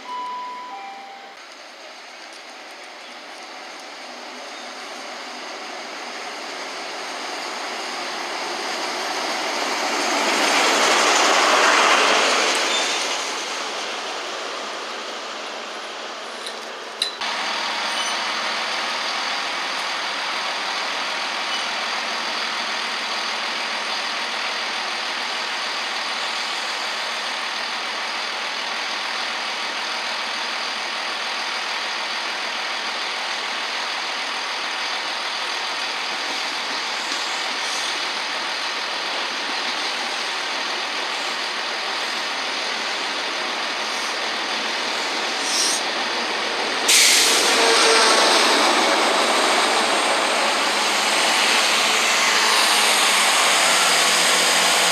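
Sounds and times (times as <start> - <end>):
train passing at speed: 0.1 - 54.9.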